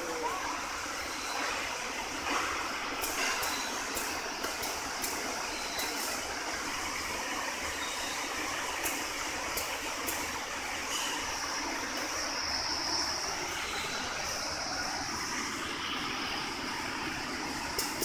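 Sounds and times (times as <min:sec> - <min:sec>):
workshop machinery hum: 0:00.0 - 0:18.0.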